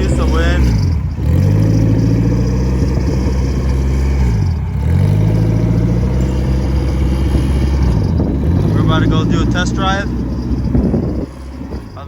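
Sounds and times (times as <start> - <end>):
four-cylinder engine running: 0.0 - 12.0.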